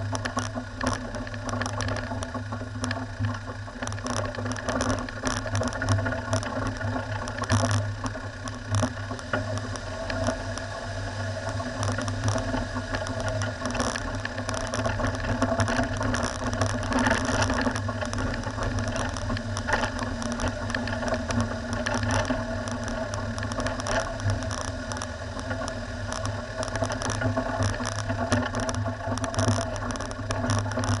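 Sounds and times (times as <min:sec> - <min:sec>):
rattles and knocks from rough ground: 0:00.0 - 0:31.0.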